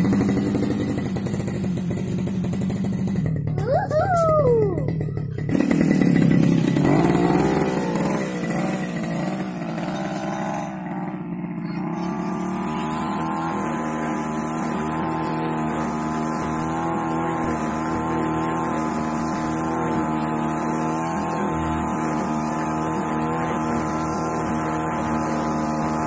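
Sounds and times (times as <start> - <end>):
brush cutter engine running: 0.0 - 26.0.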